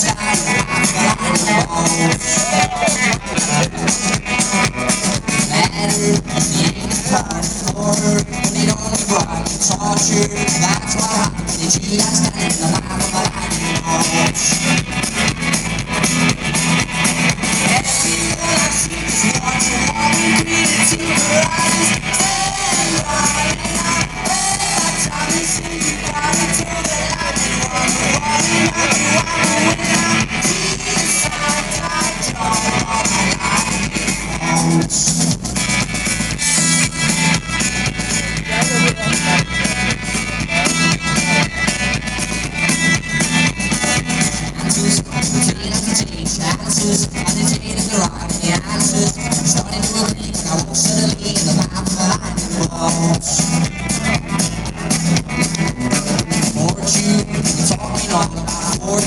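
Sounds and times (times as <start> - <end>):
driving drum beat: 0.0 - 59.0
live rock band playing: 0.0 - 59.0.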